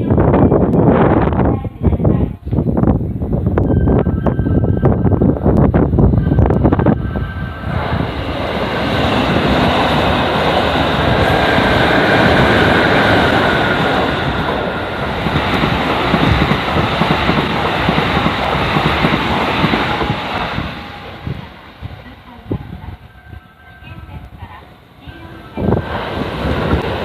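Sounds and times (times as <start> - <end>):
train wheels rushing on rails: 3.5 - 27.0.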